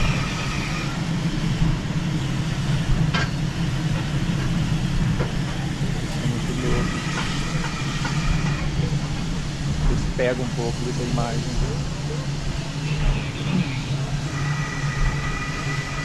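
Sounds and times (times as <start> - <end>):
steam locomotive rumbling: 0.0 - 16.0.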